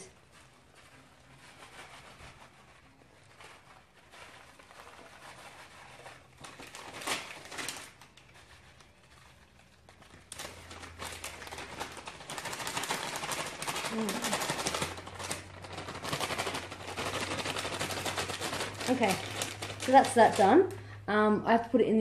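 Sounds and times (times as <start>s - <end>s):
plastic packet crinkling: 2.8s - 20.8s.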